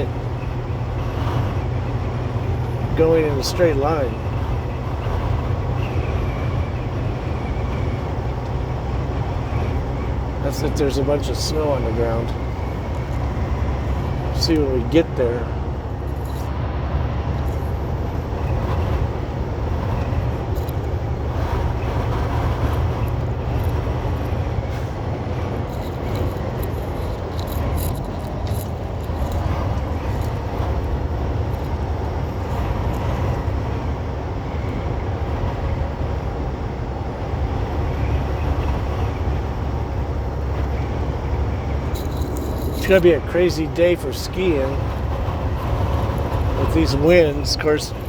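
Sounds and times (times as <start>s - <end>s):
truck engine and road rumble: 0.0s - 48.0s.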